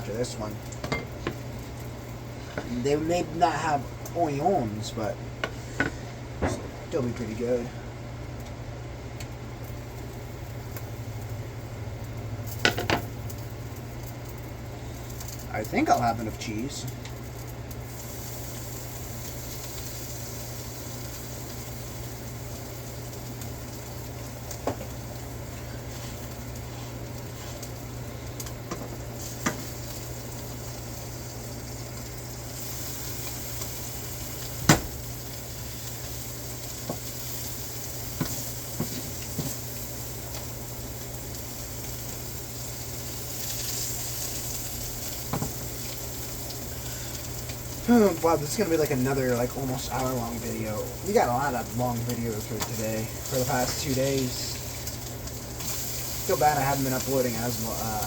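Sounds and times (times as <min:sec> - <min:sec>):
food sizzling in oil: 0:00.0 - 0:58.0
low steady hum: 0:00.0 - 0:58.0.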